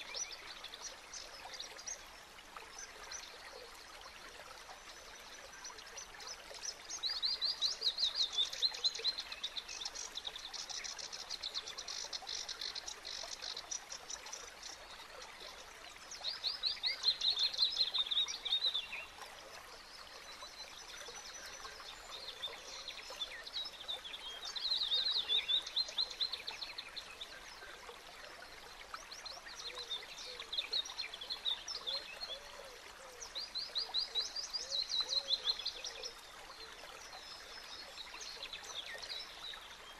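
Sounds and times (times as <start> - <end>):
faint hiss of water: 0.0 - 39.9.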